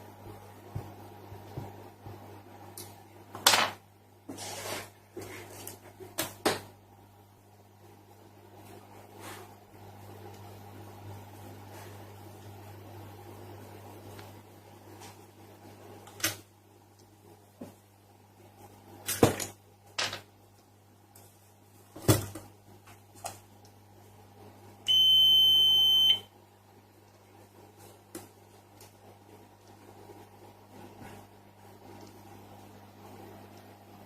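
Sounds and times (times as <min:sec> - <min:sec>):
electrical hum: 0:00.0 - 0:34.0.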